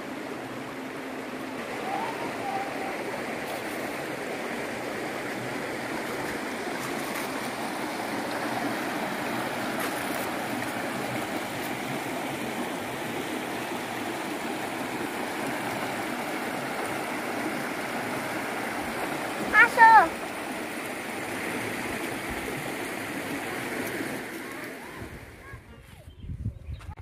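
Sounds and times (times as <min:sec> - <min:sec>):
stream running over stones: 0:00.0 - 0:25.4.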